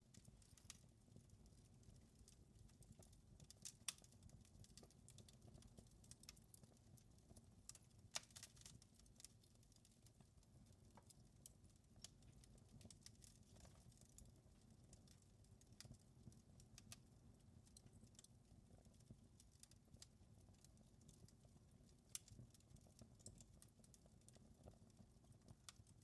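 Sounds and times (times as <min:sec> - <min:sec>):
wood fire crackling: 0:00.0 - 0:26.0
fire popping: 0:00.1 - 0:26.0.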